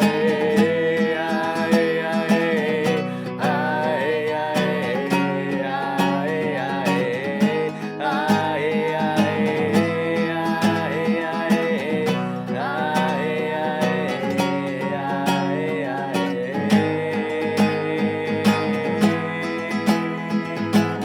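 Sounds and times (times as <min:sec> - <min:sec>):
strummed acoustic guitar: 0:00.0 - 0:21.0
wordless singing: 0:00.0 - 0:21.0.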